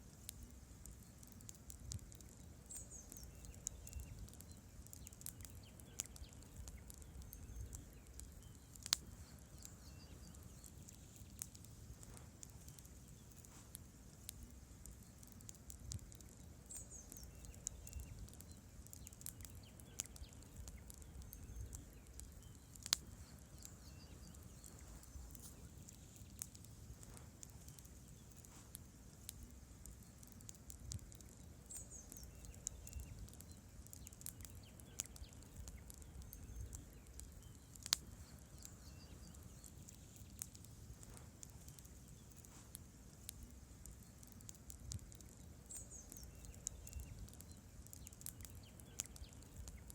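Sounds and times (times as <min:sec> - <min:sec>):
campfire pops and ticks: 0:00.0 - 0:49.9
fire low rumble: 0:00.0 - 0:49.9
loud fire snaps: 0:00.0 - 0:49.9.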